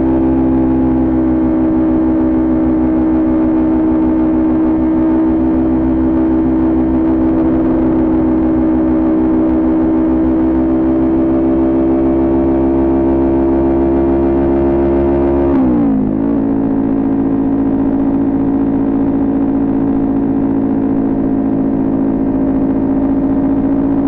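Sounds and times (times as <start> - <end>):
motorcycle engine at high revs: 0.0 - 24.0.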